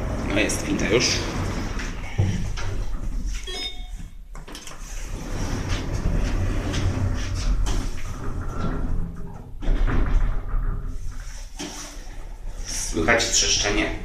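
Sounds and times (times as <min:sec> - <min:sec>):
elevator doors sliding closed: 0:00.0 - 0:13.8.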